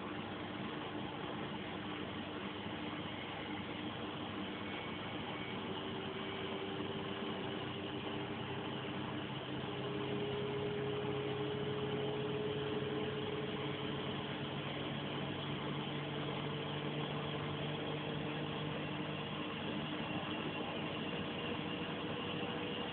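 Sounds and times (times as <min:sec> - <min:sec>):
washing machine running: 0:00.0 - 0:22.9.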